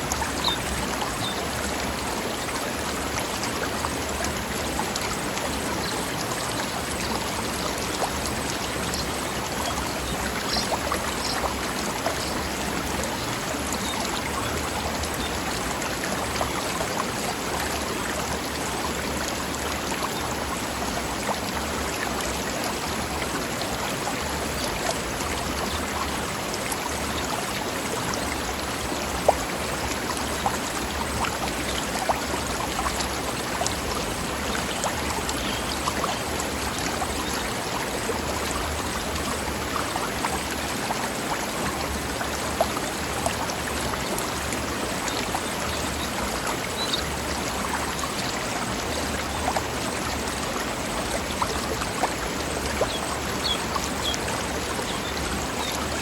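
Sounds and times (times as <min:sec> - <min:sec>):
river flowing over rocks: 0:00.0 - 0:56.0
water splashes and drips: 0:00.0 - 0:56.0.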